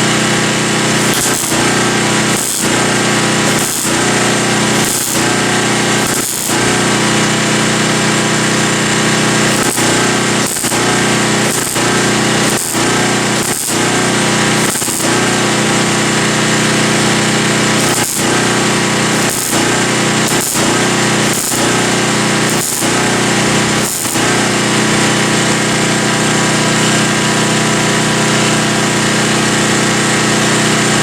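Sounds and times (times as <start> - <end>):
welder crackling buzz: 0.0 - 27.4.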